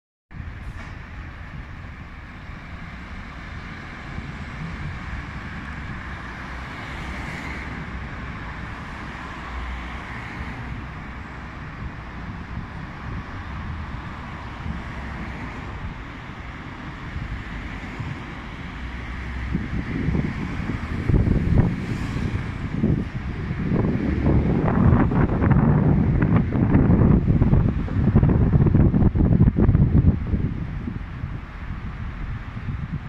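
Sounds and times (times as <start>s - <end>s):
deep traffic rumble: 0.3s - 33.0s
road traffic noise: 0.3s - 33.0s.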